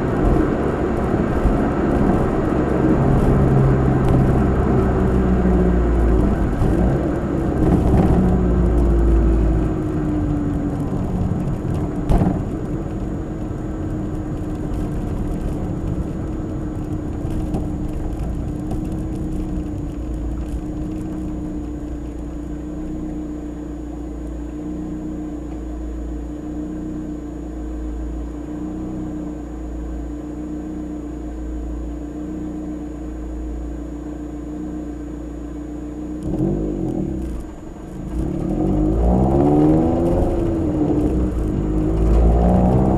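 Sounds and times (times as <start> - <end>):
car engine drone in cabin: 0.0 - 42.9.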